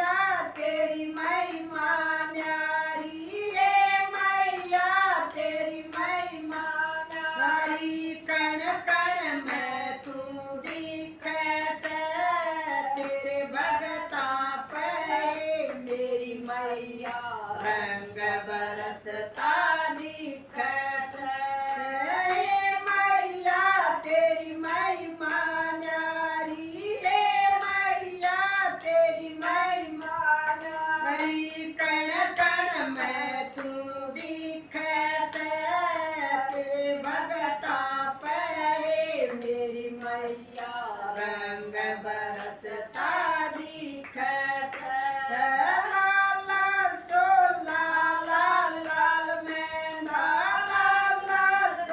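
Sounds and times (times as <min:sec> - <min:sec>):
women singing devotional song: 0:00.0 - 0:51.9
hand claps: 0:00.1 - 0:17.9, 0:18.6 - 0:20.3, 0:21.0 - 0:51.9.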